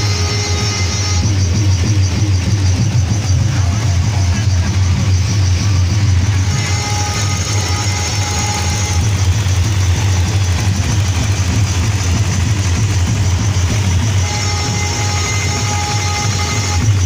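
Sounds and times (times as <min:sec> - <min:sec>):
distorted bass from loudspeakers: 0:00.0 - 0:17.0.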